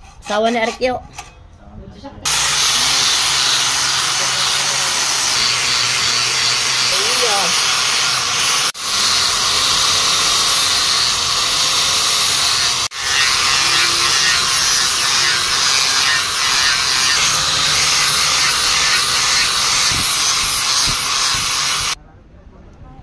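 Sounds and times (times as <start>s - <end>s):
angle grinder grinding steel: 2.3s - 22.0s.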